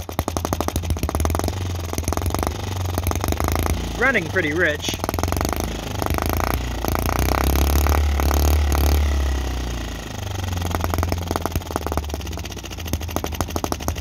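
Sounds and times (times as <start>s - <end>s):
model engine idling: 0.0s - 14.0s.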